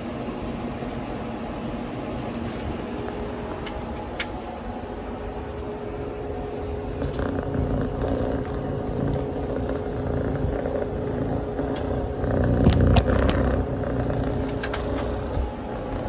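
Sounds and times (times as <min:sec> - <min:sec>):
cat purring: 0:02.6 - 0:16.0.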